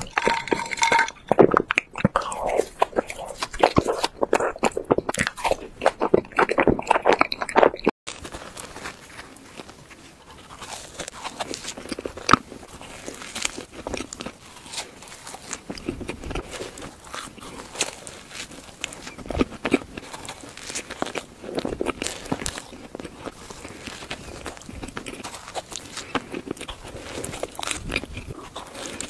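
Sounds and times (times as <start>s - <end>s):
chewing smacks and clicks: 0.0s - 7.9s, 9.6s - 29.0s.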